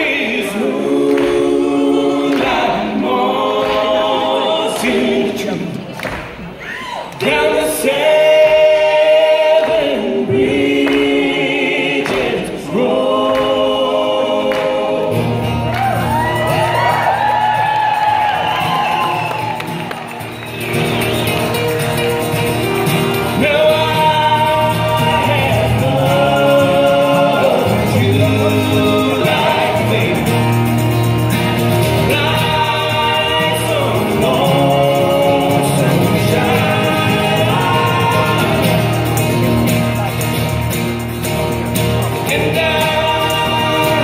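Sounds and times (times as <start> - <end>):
men singing in harmony: 0.0 - 5.9, 7.2 - 19.8, 22.3 - 40.1, 41.7 - 44.0
acoustic guitars: 0.0 - 44.0.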